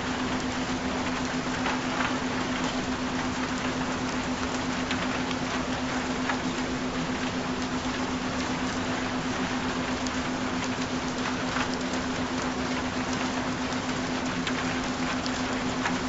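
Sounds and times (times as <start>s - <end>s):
constant low pure tone: 0.0s - 16.0s
steady rain: 0.0s - 16.0s.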